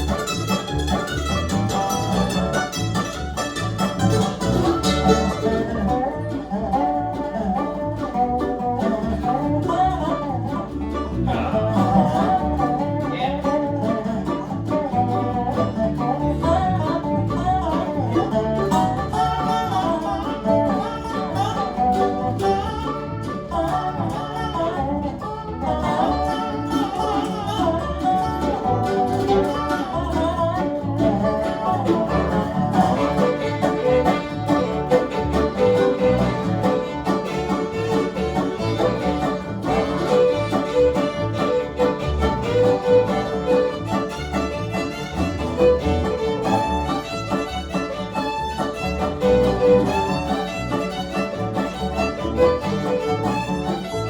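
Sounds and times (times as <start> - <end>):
banjo plucking: 0.0 - 54.0
bluegrass band playing: 0.0 - 54.0.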